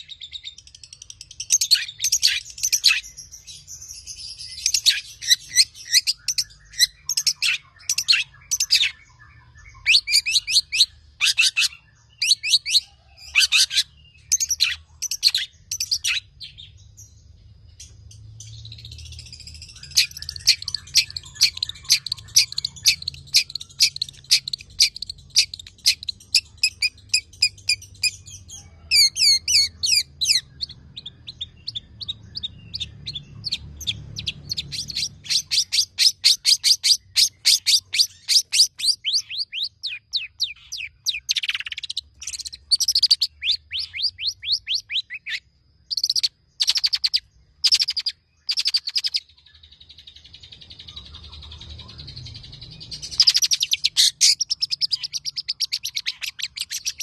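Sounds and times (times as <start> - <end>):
songbird singing rapid song: 0.0 - 57.0.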